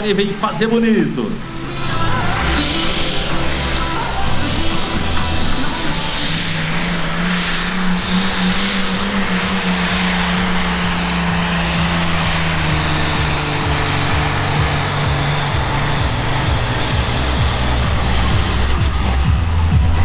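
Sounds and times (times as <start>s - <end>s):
diesel engine at high revs: 0.0s - 20.0s.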